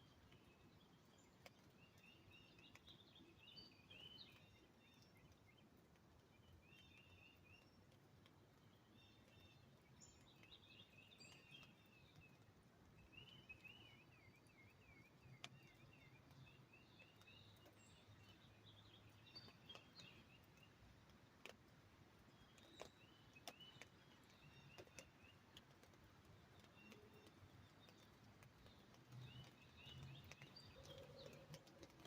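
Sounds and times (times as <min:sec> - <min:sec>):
drips tapping on an umbrella: 0:00.0 - 0:32.0
songbirds chirping: 0:00.0 - 0:32.0.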